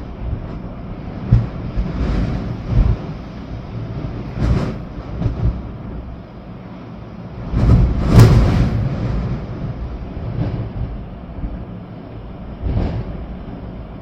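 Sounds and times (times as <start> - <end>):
storm wind gusting: 0.0 - 14.0
wind buffeting microphone: 0.0 - 14.0.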